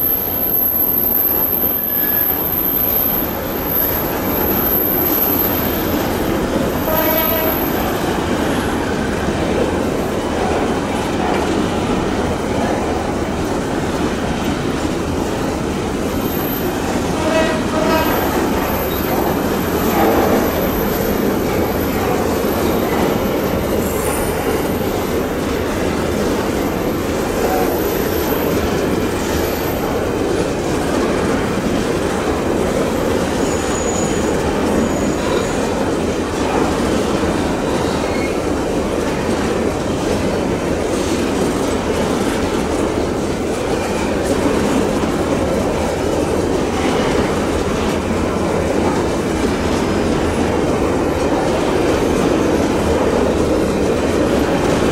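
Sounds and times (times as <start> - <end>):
freight train wheels clattering on rails: 0.0 - 54.9.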